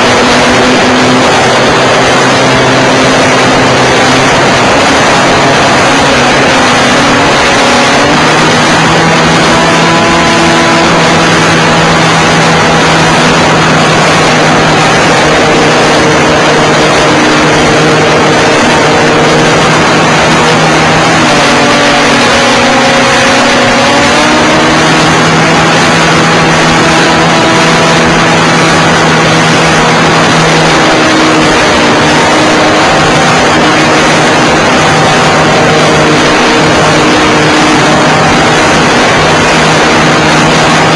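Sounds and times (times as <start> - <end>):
model airplane engine running: 0.0 - 40.9
wind rushing over microphone: 0.0 - 40.9.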